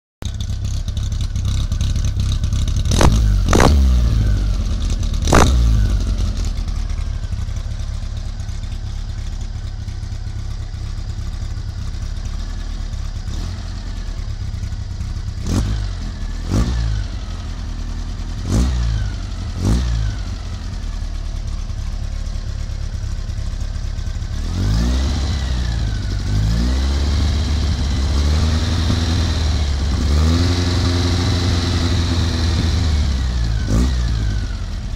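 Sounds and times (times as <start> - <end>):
car engine idling and revving: 0.2 - 34.9.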